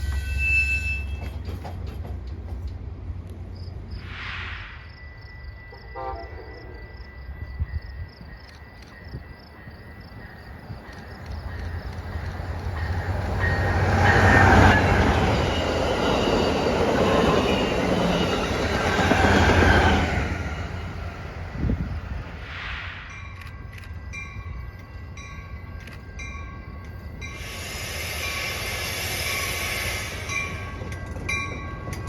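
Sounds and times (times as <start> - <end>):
train passing: 0.0 - 32.0.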